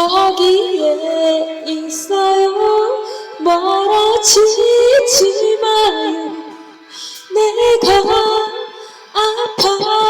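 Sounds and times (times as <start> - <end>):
person singing a slow ballad: 0.0 - 10.0.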